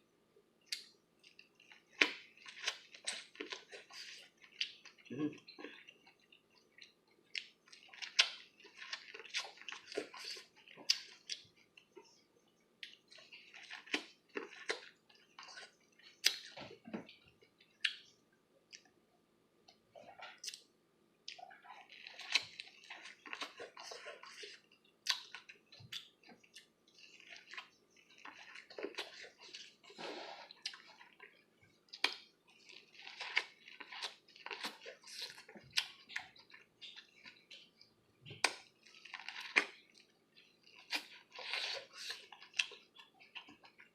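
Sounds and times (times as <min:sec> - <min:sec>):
chewing and biting corn: 0:00.6 - 0:12.2, 0:12.8 - 0:18.1, 0:21.3 - 0:43.9.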